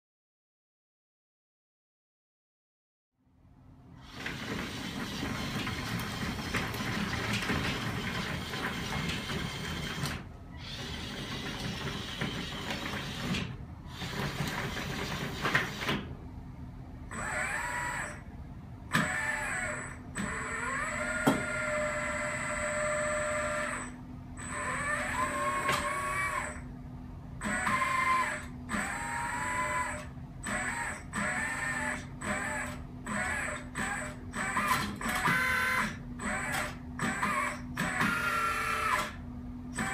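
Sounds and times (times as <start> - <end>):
model excavator hydraulic pump whine: 3.9 - 16.1, 17.0 - 39.9.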